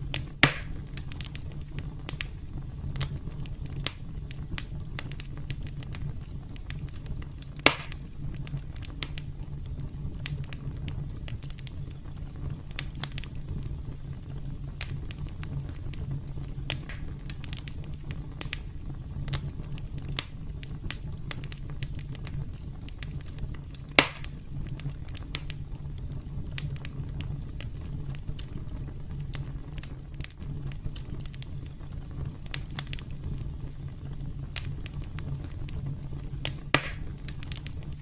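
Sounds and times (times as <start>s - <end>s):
campfire crackling: 0.0s - 38.0s
fire popping and snapping: 0.0s - 38.0s.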